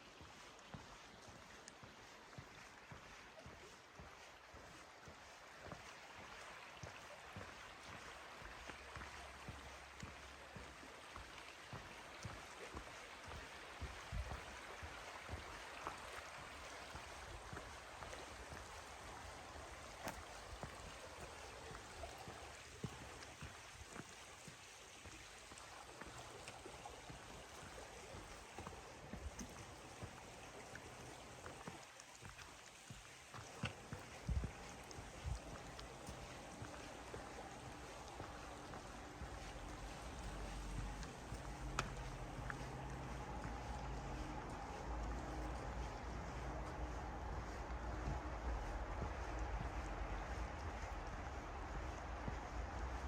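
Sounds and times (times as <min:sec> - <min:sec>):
running water: 0:00.0 - 0:53.0
footsteps on trail: 0:00.1 - 0:53.0.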